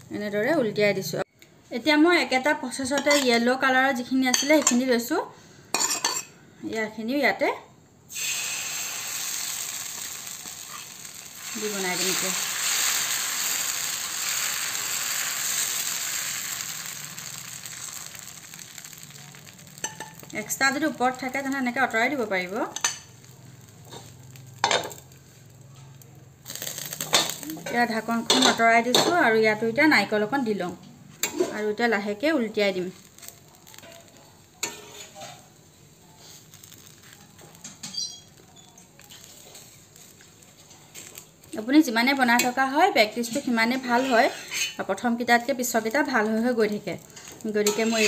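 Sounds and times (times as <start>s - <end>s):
batter sizzling on hot griddle: 8.1s - 29.6s, 30.2s - 48.0s.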